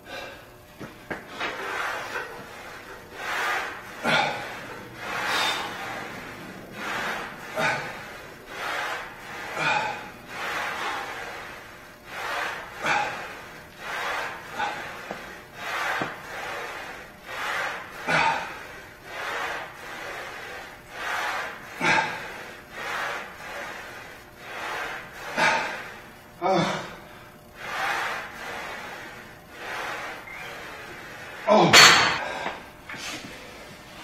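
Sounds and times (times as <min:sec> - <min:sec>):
man breathing hard: 0:00.0 - 0:00.6, 0:01.2 - 0:33.8.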